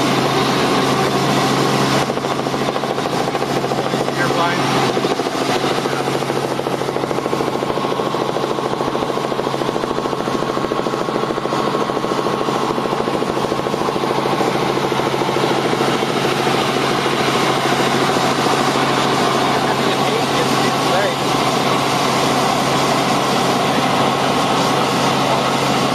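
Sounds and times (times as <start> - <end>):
helicopter rotor chopping: 0.0 - 25.9.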